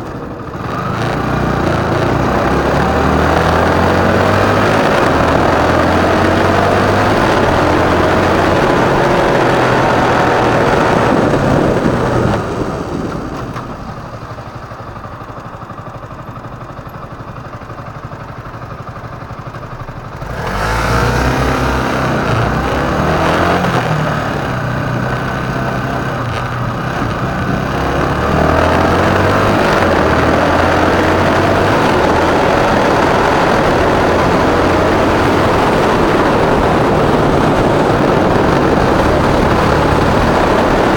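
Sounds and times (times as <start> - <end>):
wind noise: 0.0 - 14.6, 20.3 - 40.9
motorcycle engine running: 0.0 - 40.9.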